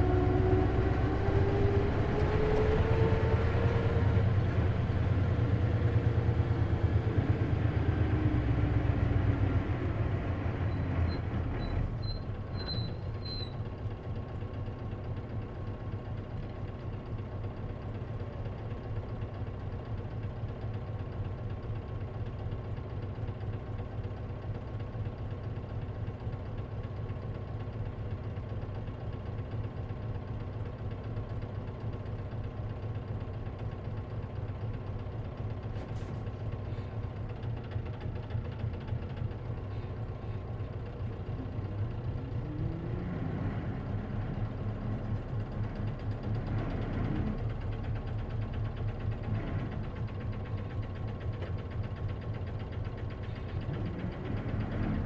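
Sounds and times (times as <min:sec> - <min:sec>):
bus engine idling and revving: 0:00.0 - 0:55.0.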